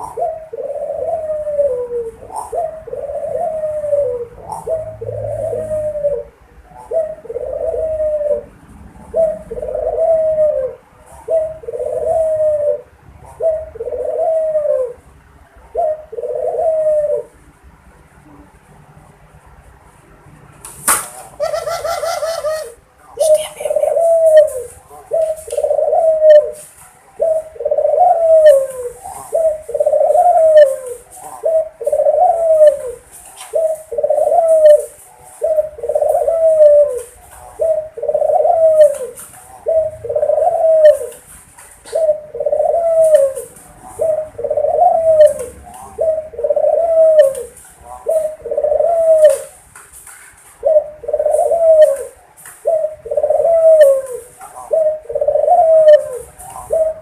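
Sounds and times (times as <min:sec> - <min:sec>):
dove cooing: 0:00.0 - 0:17.4, 0:21.1 - 0:57.0.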